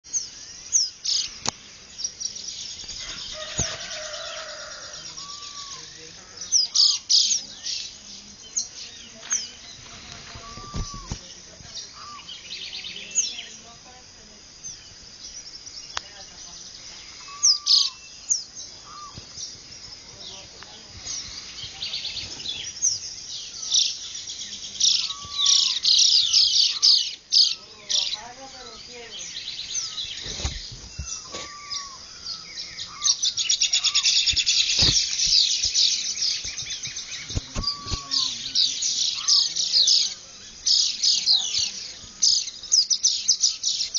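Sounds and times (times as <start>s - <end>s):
birds chirping: 0.0s - 43.9s
downward-sweeping bird calls: 0.1s - 13.8s, 14.8s - 43.9s.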